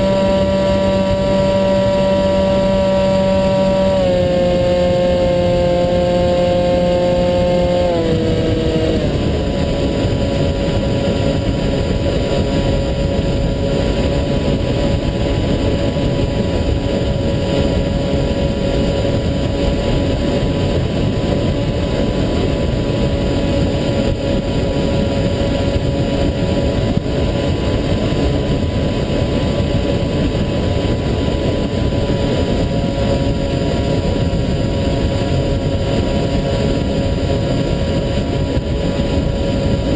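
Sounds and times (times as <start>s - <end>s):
electric motor and propeller whine: 0.0s - 39.9s
rushing wind noise: 0.0s - 39.9s.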